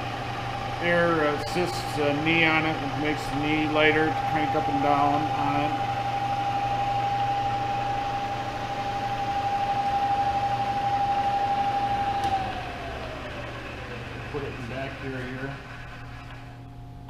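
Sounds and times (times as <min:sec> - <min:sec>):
low hum: 0:00.0 - 0:17.0
milling machine spindle whine: 0:00.0 - 0:17.0.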